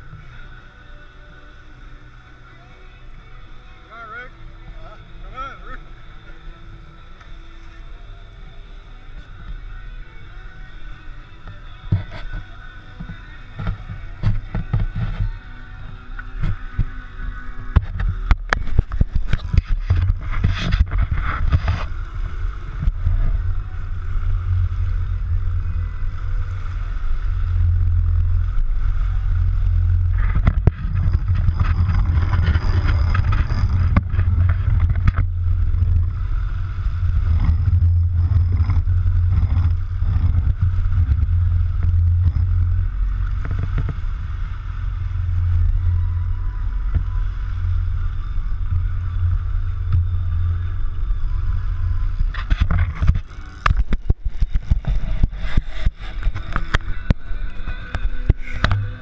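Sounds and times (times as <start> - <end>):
boat engine rumbling: 0.0 - 59.0
water washing along hull: 0.0 - 59.0.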